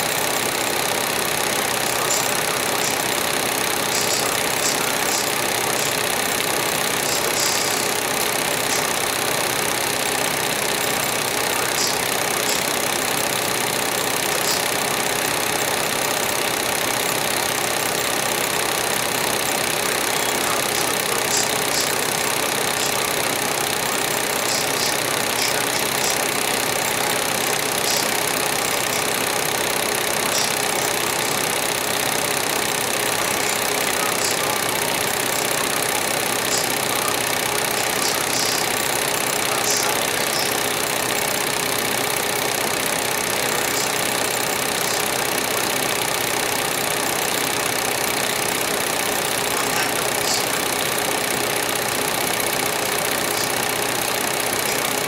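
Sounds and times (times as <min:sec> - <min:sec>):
machine humming: 0:00.0 - 0:55.0.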